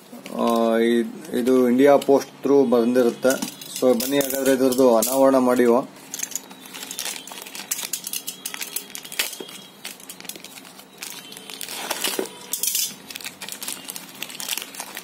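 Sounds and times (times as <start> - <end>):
plastic mailer bag crinkling: 3.0 - 15.0.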